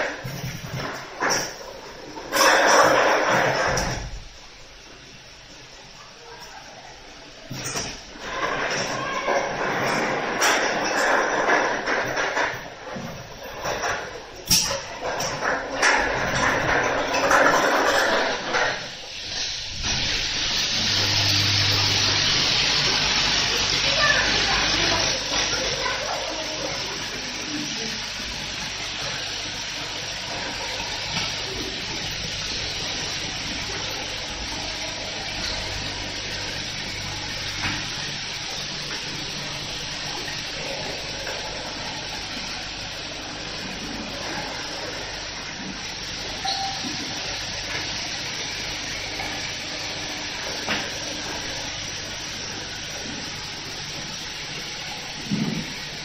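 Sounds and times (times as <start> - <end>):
machinery hissing and whirring: 0.0 - 56.0.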